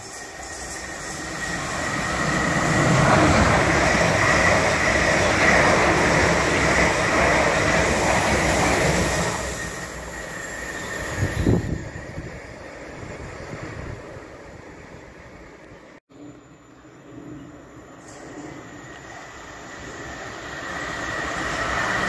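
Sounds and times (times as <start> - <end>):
train wheels rushing on rail: 0.0 - 16.0, 17.9 - 22.0
electric train whine: 0.0 - 22.0.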